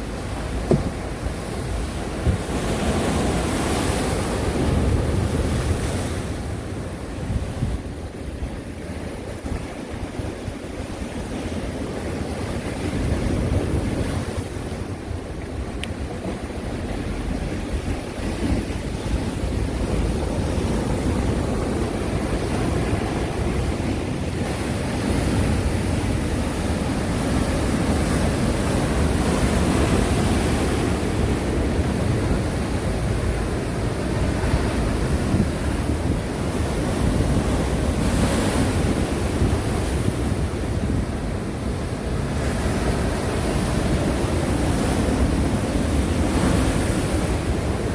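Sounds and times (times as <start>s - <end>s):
waves breaking ashore: 0.0s - 47.9s.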